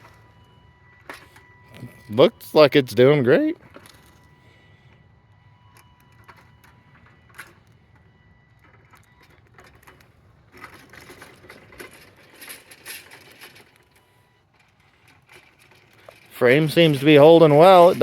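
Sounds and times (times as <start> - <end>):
robot lawn mower whirring: 0.0 - 18.0.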